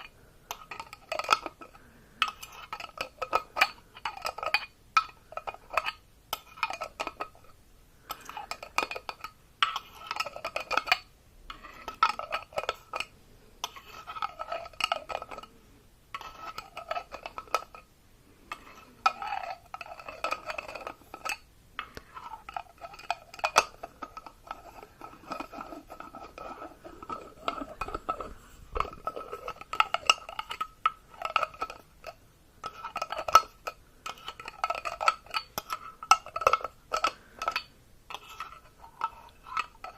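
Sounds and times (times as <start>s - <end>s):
metal utensil scraping ringing vessel: 0.0s - 7.4s, 8.1s - 15.5s, 16.2s - 17.8s, 18.5s - 39.9s.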